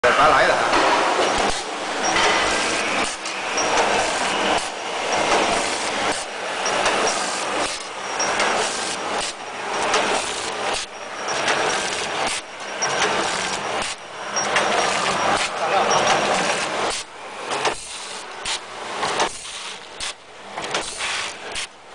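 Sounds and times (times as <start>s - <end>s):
packaging machine clattering: 0.8s - 21.9s.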